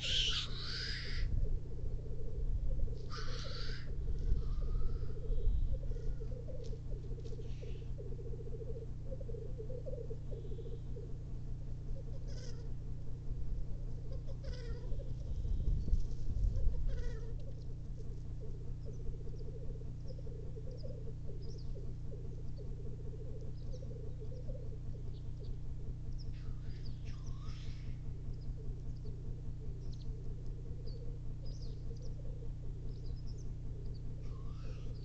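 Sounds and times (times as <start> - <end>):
higher bird calls: 0.0 - 35.0
low rumble: 0.0 - 35.0.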